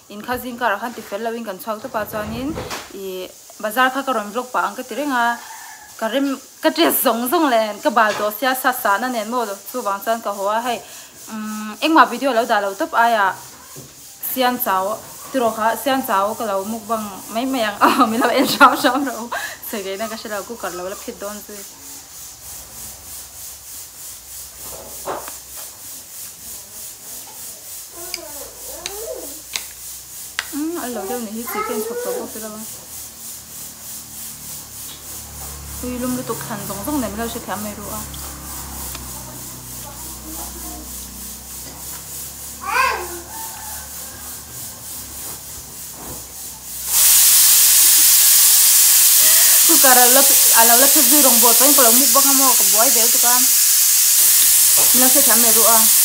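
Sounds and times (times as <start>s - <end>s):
loud steady hiss: 0.0s - 56.0s.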